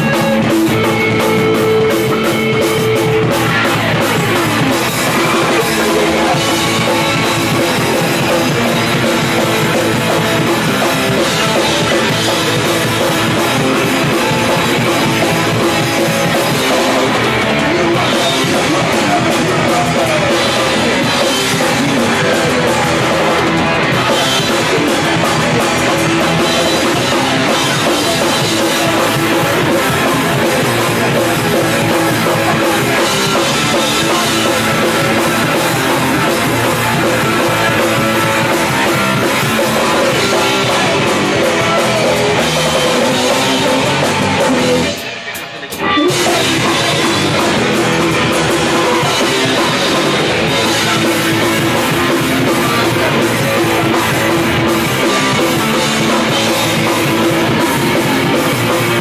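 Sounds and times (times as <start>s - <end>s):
bass guitar: 0.0s - 59.0s
distorted electric guitar: 0.0s - 59.0s
pounding drum kit: 0.0s - 59.0s.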